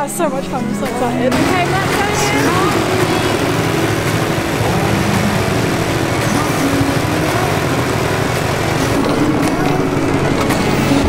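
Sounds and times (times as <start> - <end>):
go-kart engine running: 1.3 - 11.0.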